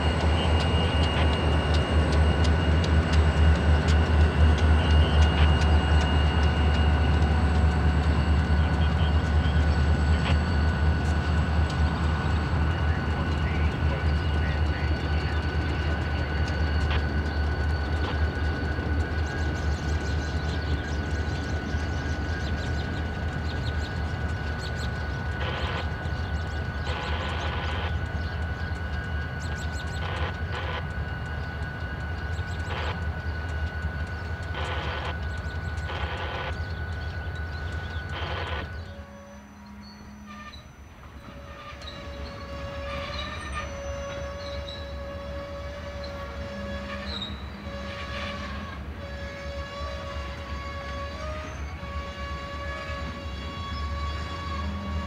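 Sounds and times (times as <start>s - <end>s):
locomotive engine rumble: 0.0s - 55.0s
thin high whine: 0.0s - 55.0s.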